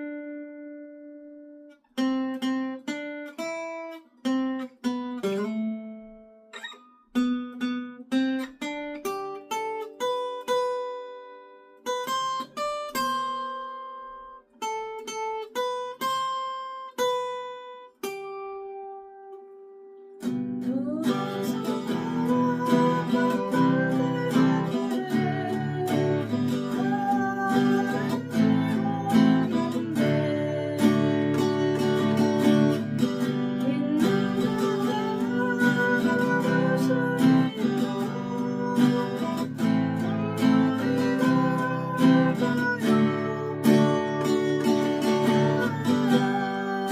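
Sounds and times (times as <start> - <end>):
acoustic guitar picking a melody: 0.0 - 46.9
guitar strumming with bass: 0.0 - 46.9.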